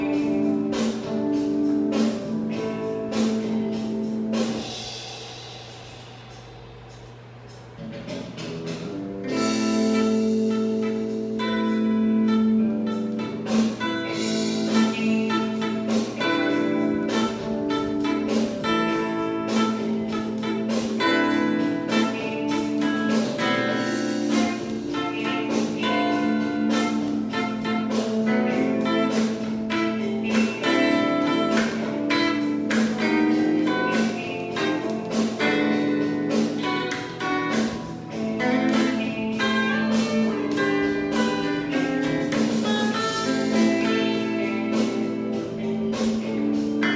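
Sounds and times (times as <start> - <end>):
blues guitar plucked notes: 0.0 - 5.0, 7.8 - 46.9.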